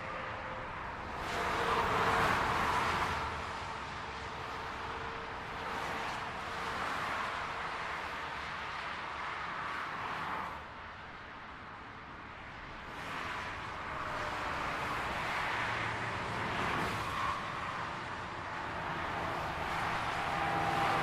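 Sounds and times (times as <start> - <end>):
highway traffic rushing: 0.0 - 21.0.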